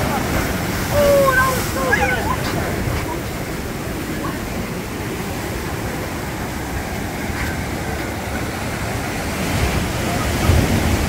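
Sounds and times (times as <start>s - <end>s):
ocean surf breaking over rocks: 0.0s - 11.0s.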